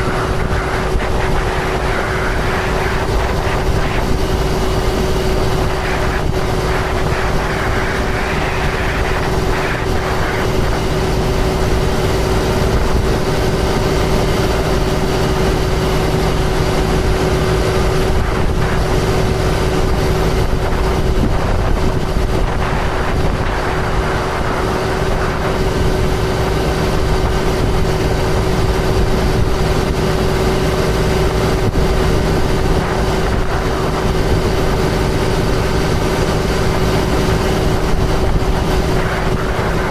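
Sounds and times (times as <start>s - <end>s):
sprayer engine drone: 0.0s - 39.9s.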